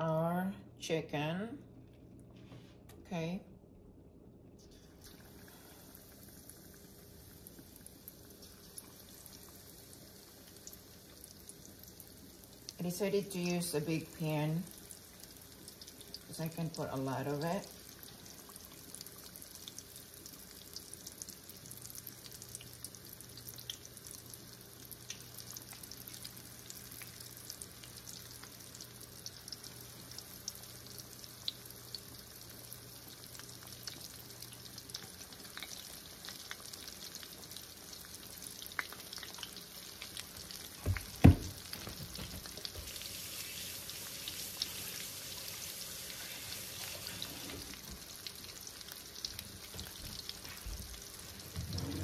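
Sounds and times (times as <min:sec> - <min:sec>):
chicken deep-frying in oil: 0:04.6 - 0:52.0.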